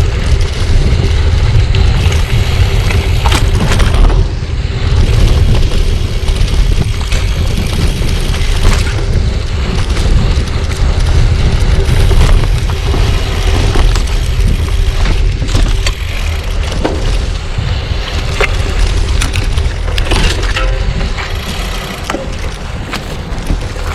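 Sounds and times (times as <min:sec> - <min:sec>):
bicycle tyre noise: 0:00.0 - 0:23.9
bike clicks and rattles: 0:00.0 - 0:23.9
wind buffeting microphone: 0:00.0 - 0:23.9.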